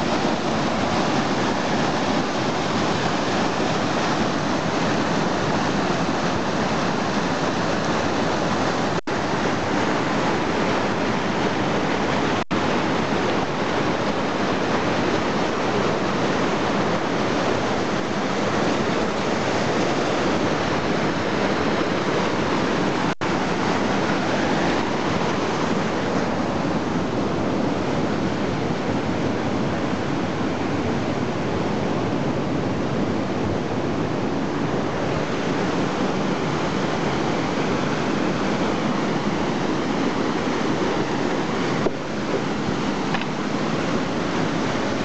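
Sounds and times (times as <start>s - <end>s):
stream rushing over boulders: 0.0s - 45.0s.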